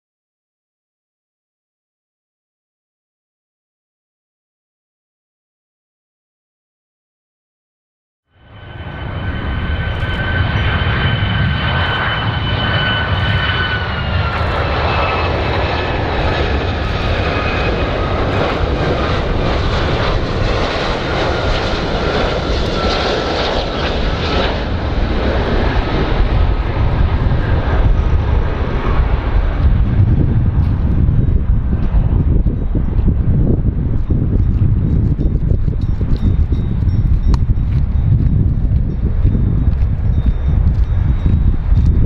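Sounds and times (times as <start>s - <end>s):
jet engines rumbling and whining: 8.3s - 42.0s.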